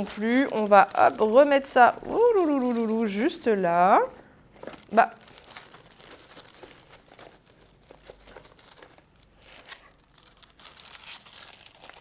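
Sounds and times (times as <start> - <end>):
tissue paper crinkling: 0.0 - 3.8, 4.6 - 12.0.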